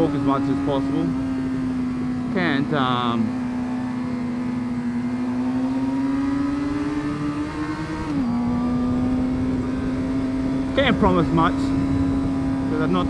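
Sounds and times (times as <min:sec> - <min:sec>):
motorcycle engine pulling under throttle: 0:00.0 - 0:13.0.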